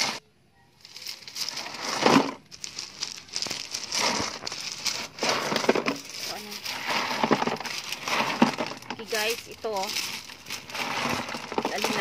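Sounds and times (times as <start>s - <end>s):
pebbles crunching and clicking: 0.8s - 12.0s.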